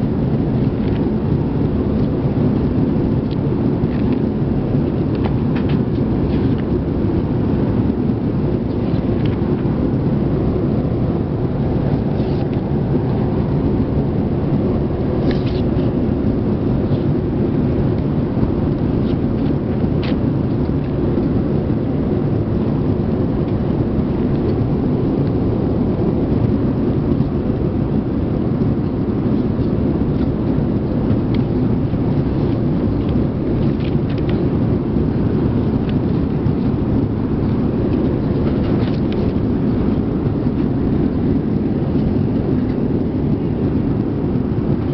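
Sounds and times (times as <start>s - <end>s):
jet engines and airflow rumbling: 0.0s - 44.9s.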